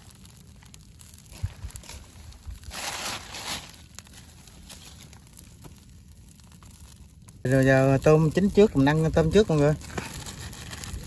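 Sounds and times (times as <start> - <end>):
fat sizzling on coals: 0.0 - 11.0.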